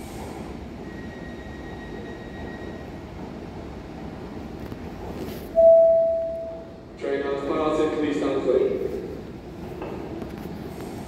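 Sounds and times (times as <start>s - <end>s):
electric train low rumble: 0.0s - 11.0s.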